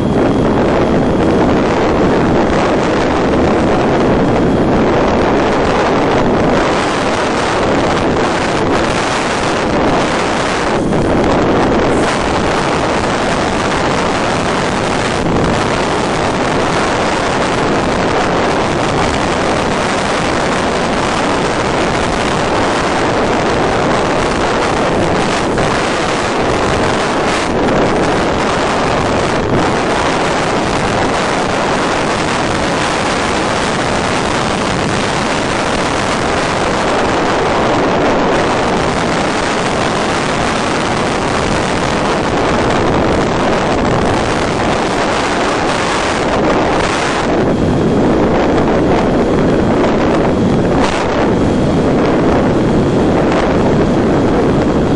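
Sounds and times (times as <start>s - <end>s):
wind noise on microphone: 0.0s - 54.9s.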